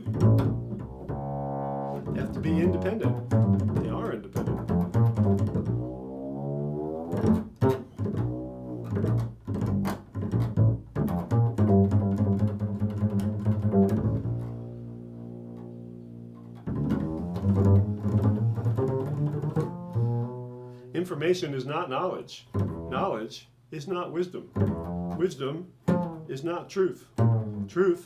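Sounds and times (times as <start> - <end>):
bass plucked notes: 0.0 - 20.9, 22.5 - 23.2, 24.6 - 26.5, 27.2 - 27.8.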